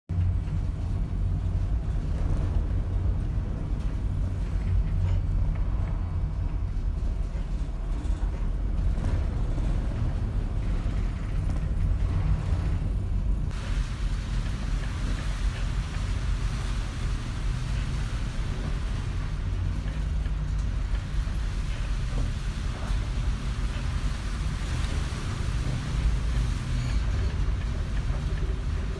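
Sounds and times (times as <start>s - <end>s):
wind and waves rumbling: 0.1s - 28.9s.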